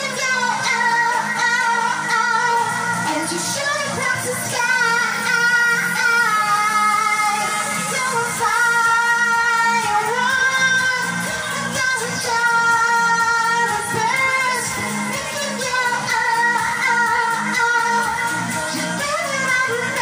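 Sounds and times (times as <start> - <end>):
backing track with beat: 0.0 - 20.0
woman singing pop song: 0.0 - 20.0.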